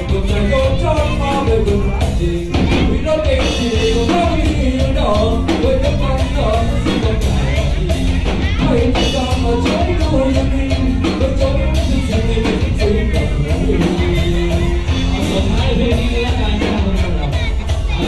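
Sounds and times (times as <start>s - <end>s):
bass guitar: 0.0s - 18.0s
drum beat: 0.0s - 18.0s
electric guitars: 0.0s - 18.0s.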